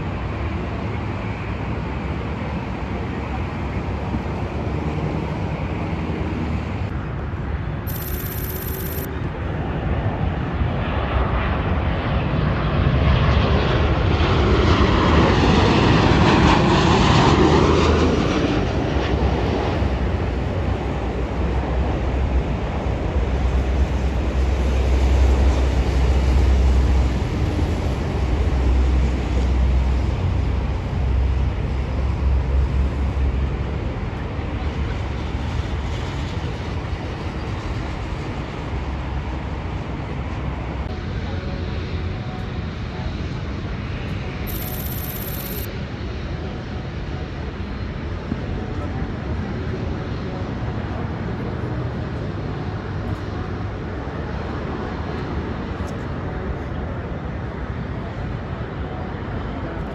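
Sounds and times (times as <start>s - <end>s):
jet airliner passing: 0.0s - 56.8s.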